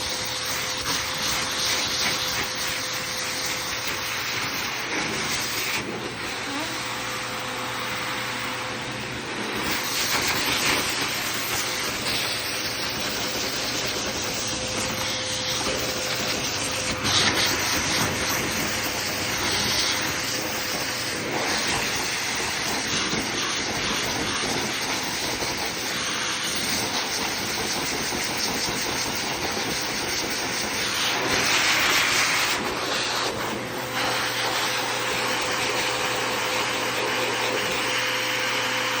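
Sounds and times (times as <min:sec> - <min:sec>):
grooming dryer blowing air: 0:00.0 - 0:39.0.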